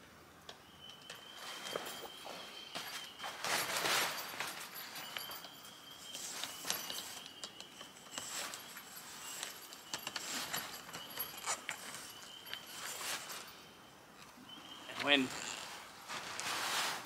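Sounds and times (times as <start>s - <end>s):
canvas rustling: 1.1s - 13.7s, 14.6s - 17.0s.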